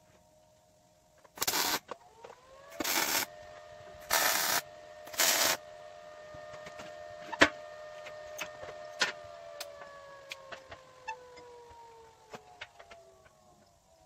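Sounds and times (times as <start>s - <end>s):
air compressor whining: 1.2s - 14.0s.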